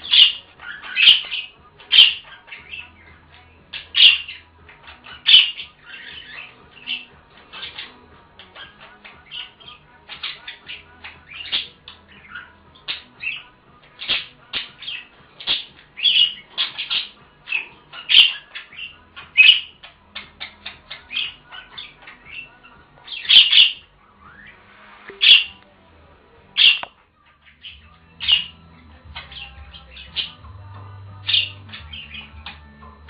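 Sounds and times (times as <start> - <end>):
budgerigars chirping and squawking: 0.0 - 25.6, 26.5 - 33.0.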